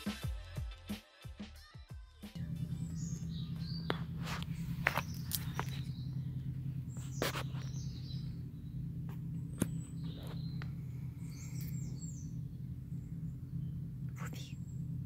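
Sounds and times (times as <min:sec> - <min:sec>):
low background hum: 0:02.4 - 0:15.0
small birds chirping: 0:02.4 - 0:15.0.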